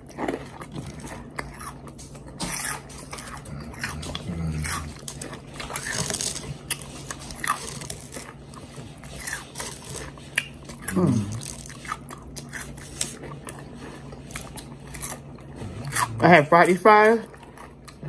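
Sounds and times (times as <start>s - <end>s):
crunchy fries being chewed: 0.0s - 18.0s
faint low hum: 0.0s - 18.0s.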